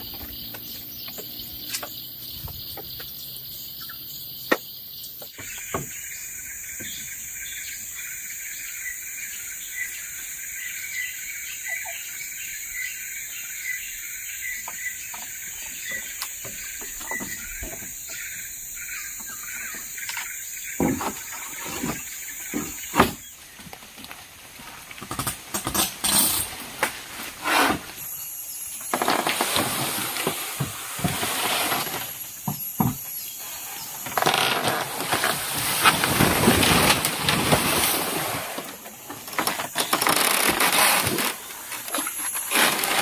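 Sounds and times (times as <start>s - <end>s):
forest insects chorus: 0.0s - 43.0s.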